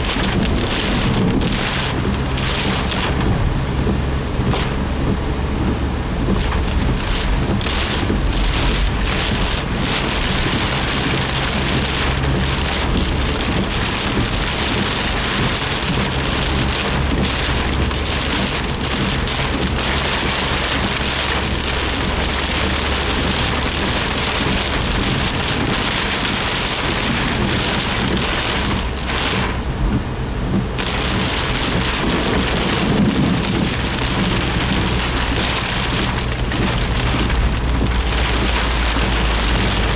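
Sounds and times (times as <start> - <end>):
engine and road hum: 0.0 - 39.9
heavy rain on car roof: 0.0 - 39.9.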